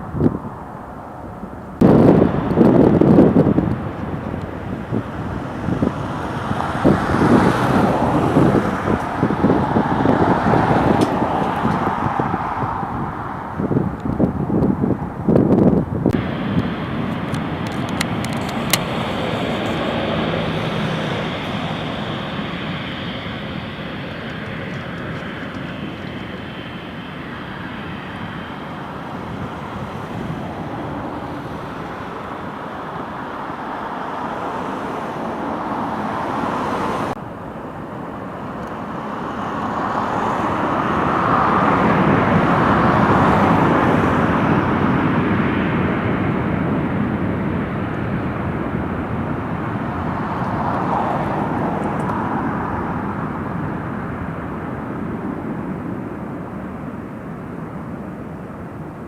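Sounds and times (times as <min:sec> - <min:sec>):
jet airliner engine roar: 0:00.0 - 0:59.0
traffic and aircraft noise: 0:00.0 - 0:59.0.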